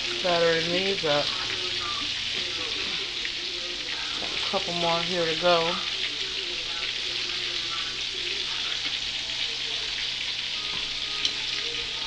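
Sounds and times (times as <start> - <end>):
chicken frying in grease: 0.0 - 12.0.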